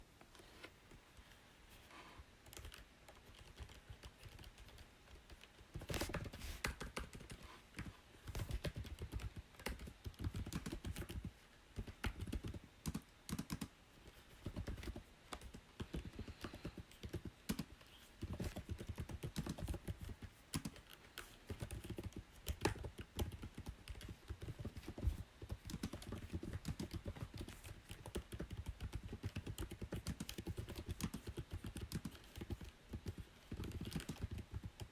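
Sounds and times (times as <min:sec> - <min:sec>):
computer keyboard typing: 0:02.4 - 0:34.9.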